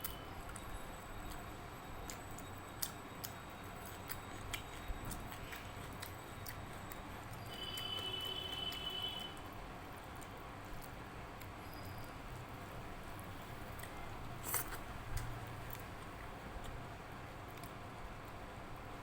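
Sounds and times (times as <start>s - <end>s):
fingers working wet food: 0.0s - 9.0s, 10.0s - 16.8s
chewing and smacking: 0.0s - 16.8s.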